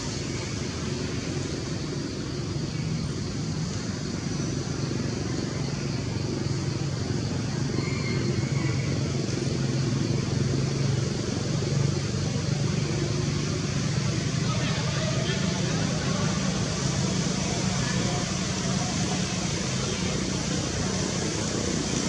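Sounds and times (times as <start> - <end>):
road traffic drone: 0.0 - 22.0.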